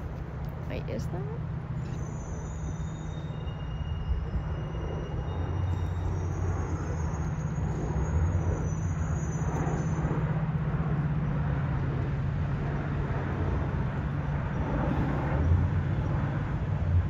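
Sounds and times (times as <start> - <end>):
faint high whine: 0.0 - 17.0
low diesel engine drone: 0.0 - 17.0
train rolling noise: 1.6 - 17.0.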